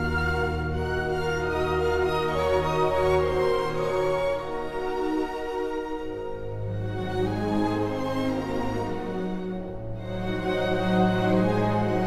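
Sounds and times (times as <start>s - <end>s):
slow orchestral strings: 0.0s - 12.0s.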